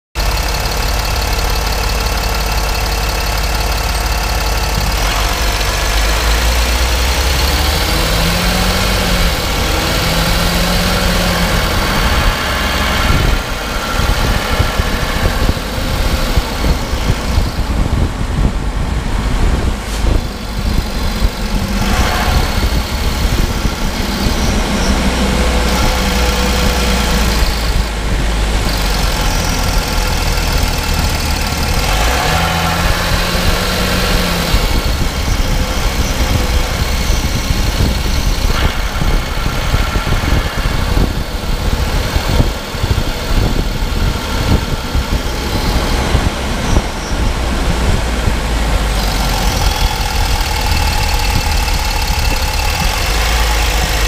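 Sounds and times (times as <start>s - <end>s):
low rumble of tyres and engine: 0.1s - 54.0s.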